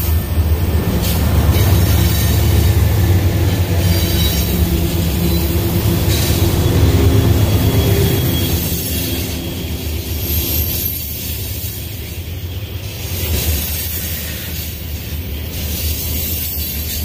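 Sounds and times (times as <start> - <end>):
hopper cars rolling past: 0.0 - 15.4
diesel locomotive engines humming: 0.0 - 17.0.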